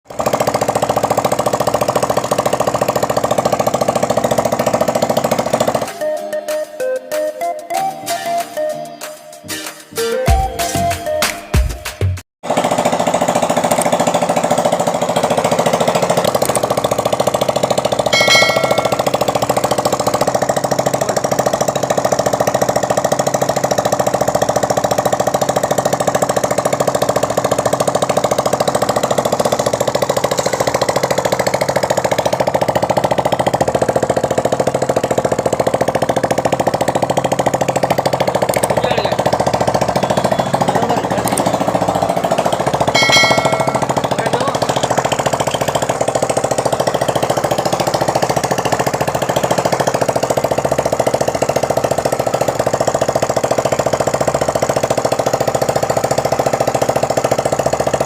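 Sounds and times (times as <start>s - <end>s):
motorcycle engine idling: 0.0s - 6.0s, 12.4s - 58.0s.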